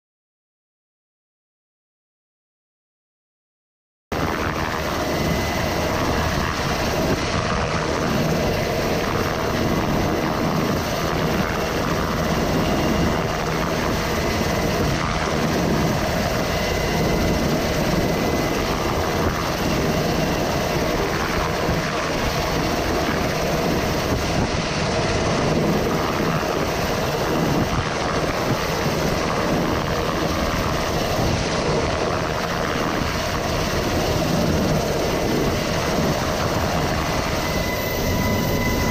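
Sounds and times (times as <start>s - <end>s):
helicopter rotor and engine: 4.1s - 38.9s
faint whine: 4.2s - 38.9s.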